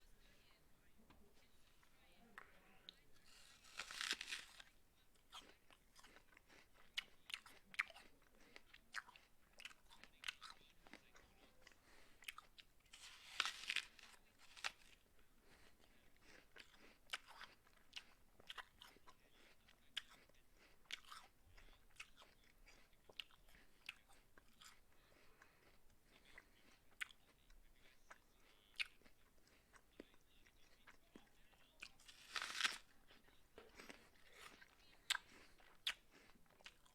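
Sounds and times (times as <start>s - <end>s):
person biting and chewing apple: 3.2s - 31.0s, 31.8s - 36.9s.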